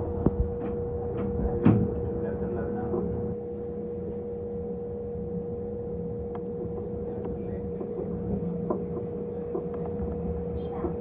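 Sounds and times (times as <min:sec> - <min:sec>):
electric train running rumble: 0:00.0 - 0:11.0.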